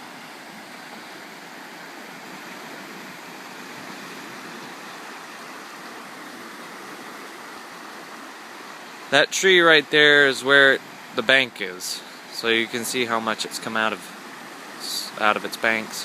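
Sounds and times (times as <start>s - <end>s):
creek floodwater rushing: 0.0s - 16.0s.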